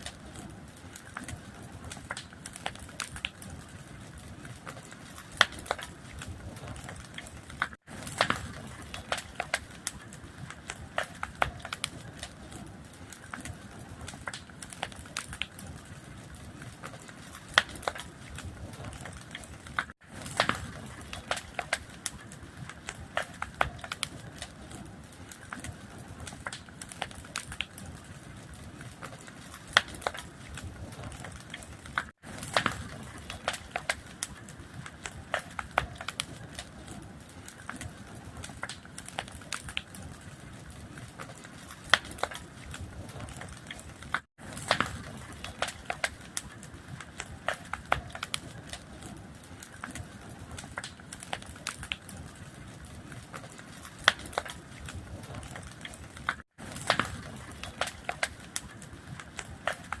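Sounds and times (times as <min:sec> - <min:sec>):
fire crackling: 0:00.0 - 1:00.0.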